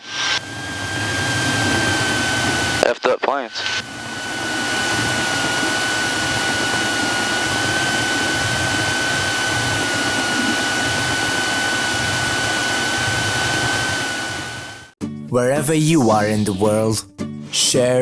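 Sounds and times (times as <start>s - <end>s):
aircraft cabin drone: 0.0s - 15.0s
high whine: 0.0s - 16.9s.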